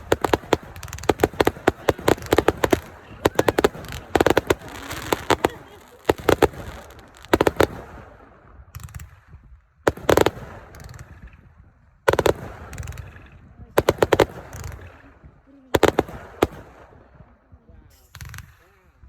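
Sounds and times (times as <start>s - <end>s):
fireworks bangs and crackle: 0.0s - 18.7s.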